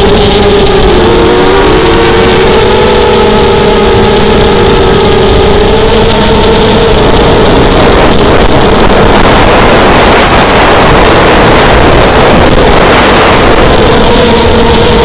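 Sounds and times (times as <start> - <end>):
drone motors buzzing: 0.0 - 15.0
wind rushing over microphone: 0.0 - 15.0.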